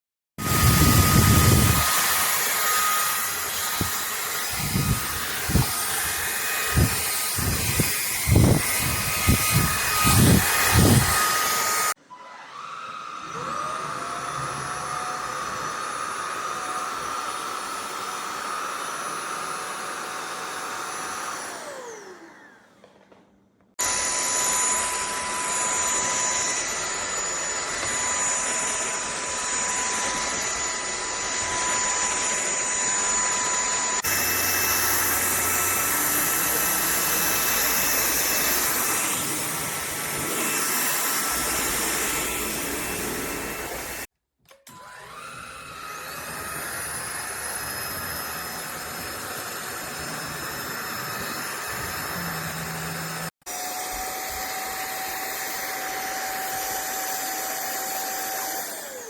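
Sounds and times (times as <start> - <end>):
stick vacuum motor whine: 0.4 - 22.9, 23.8 - 59.0.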